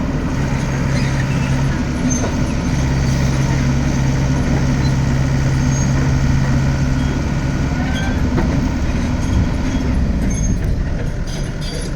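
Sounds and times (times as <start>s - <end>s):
excavator engine rumble: 0.0s - 11.9s.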